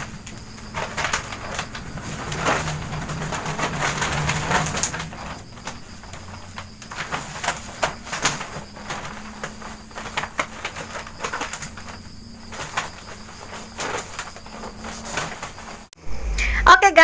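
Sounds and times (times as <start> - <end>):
fabric cover rustling and clicking: 0.0 - 16.0.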